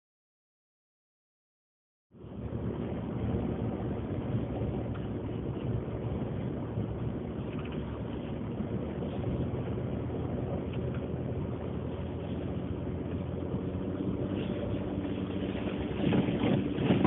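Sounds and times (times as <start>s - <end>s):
truck engine hum: 2.2s - 17.0s
tyres rushing through snow: 2.4s - 17.0s.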